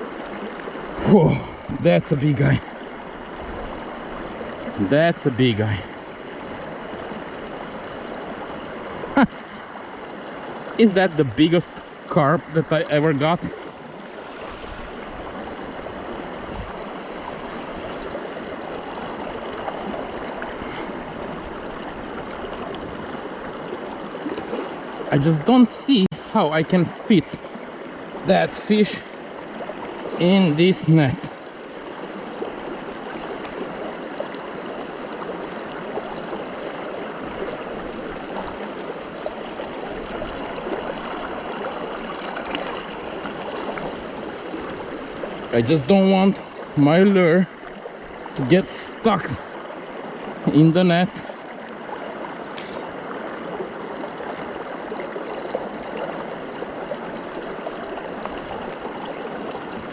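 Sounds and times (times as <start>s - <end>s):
flowing river water: 0.0s - 59.9s.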